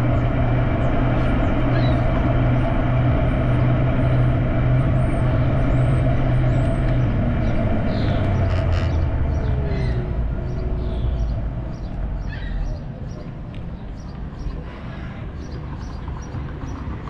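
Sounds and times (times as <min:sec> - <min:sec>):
street traffic: 0:00.0 - 0:17.0
vehicle engine hum: 0:00.0 - 0:17.0.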